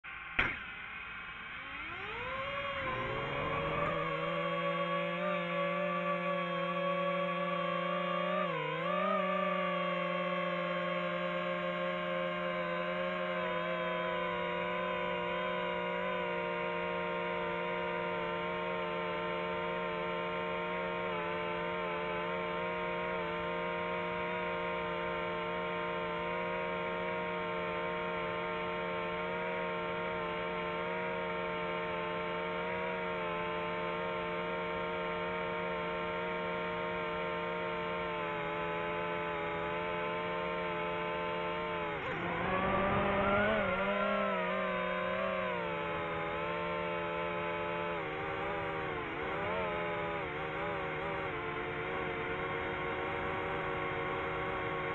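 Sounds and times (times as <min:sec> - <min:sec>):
drone propellers buzzing: 0:00.1 - 0:54.9.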